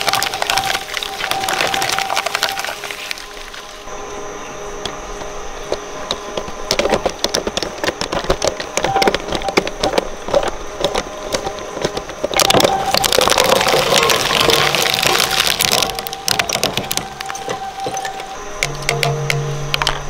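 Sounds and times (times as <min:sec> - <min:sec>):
shredder crunching plastic: 0:00.0 - 0:03.7, 0:06.3 - 0:19.0
faint high whine: 0:00.0 - 0:20.0.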